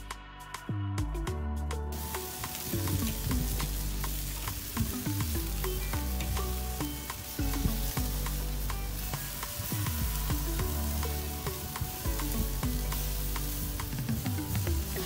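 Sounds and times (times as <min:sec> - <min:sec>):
background music: 0:00.0 - 0:15.0
chicken sizzling on a grill: 0:01.9 - 0:15.0.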